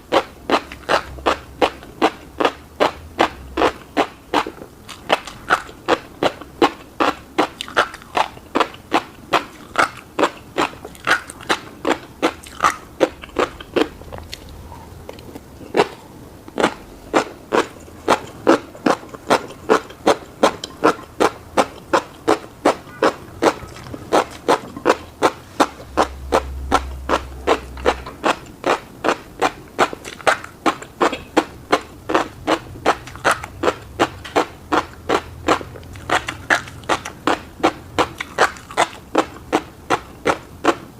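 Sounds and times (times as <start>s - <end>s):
close-miked chewing: 0.0s - 40.9s
wet mouth clicks: 0.0s - 40.9s.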